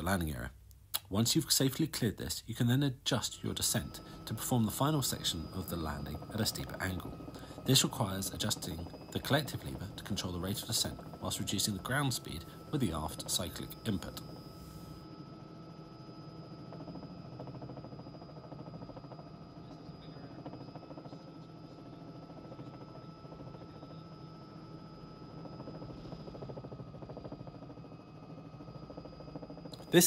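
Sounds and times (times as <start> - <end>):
faint high whine: 0.0 - 30.0
helicopter engine and rotor drone: 1.1 - 30.0.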